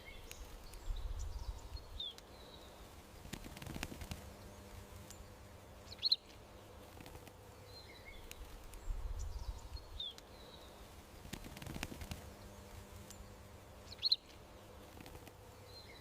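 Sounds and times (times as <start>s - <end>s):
steady low background noise: 0.0s - 16.0s.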